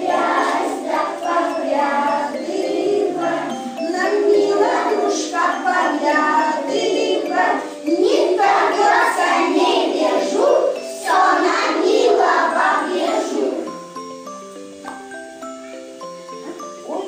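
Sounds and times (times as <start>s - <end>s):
children singing together: 0.0s - 14.0s.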